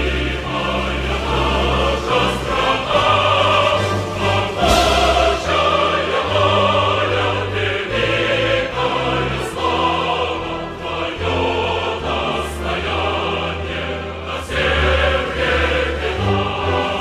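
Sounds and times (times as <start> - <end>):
choral voices: 0.0 - 17.0.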